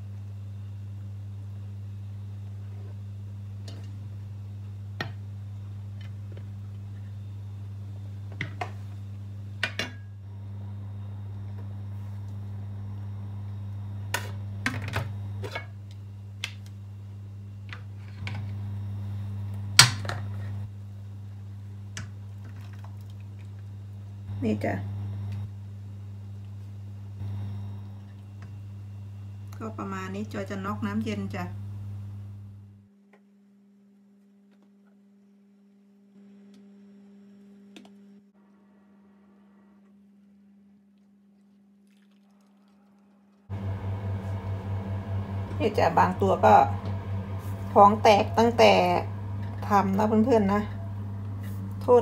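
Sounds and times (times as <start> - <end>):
steady low hum: 0.0 - 41.6, 43.4 - 52.0.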